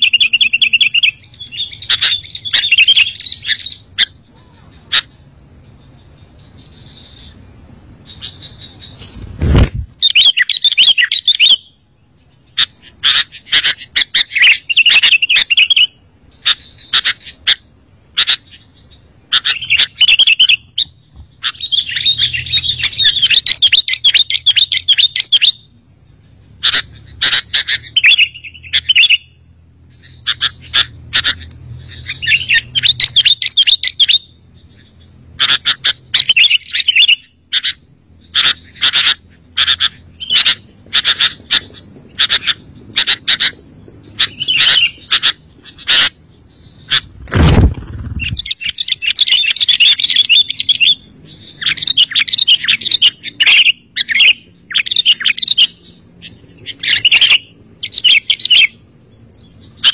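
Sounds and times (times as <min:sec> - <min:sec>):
bird chirping and trilling: 0:00.0 - 0:59.9.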